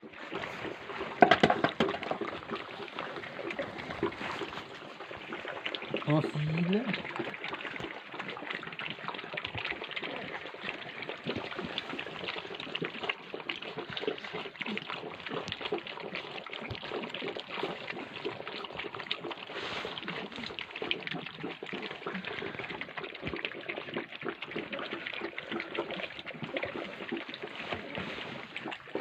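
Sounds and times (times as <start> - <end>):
puppies eating and lapping: 0.0 - 29.0.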